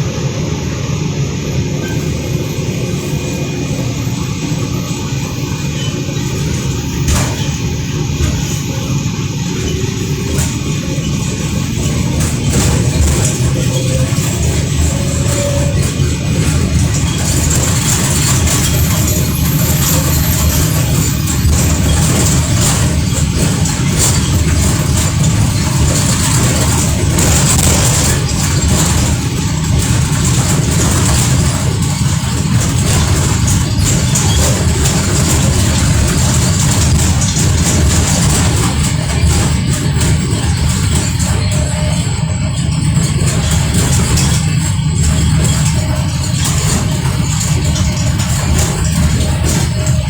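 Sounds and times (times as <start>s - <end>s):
vehicle cabin low rumble: 0.0s - 50.0s
sharp knocks: 3.5s - 50.0s.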